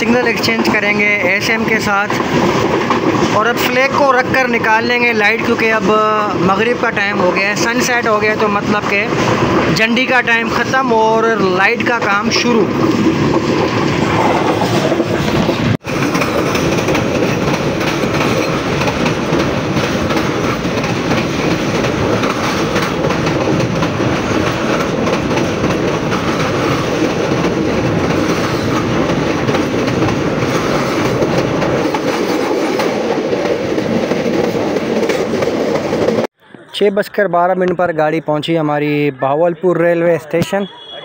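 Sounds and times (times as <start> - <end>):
train wheels rumbling on rails: 0.0 - 36.3.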